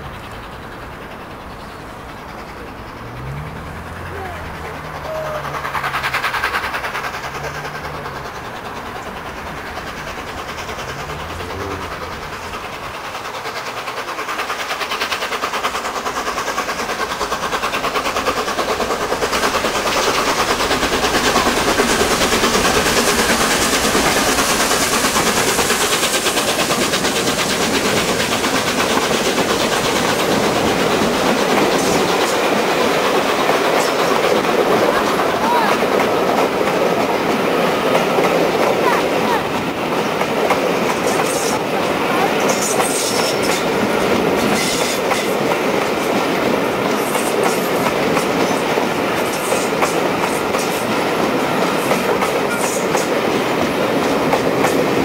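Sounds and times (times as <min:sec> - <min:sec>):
steam locomotive climbing: 0:00.0 - 0:55.0.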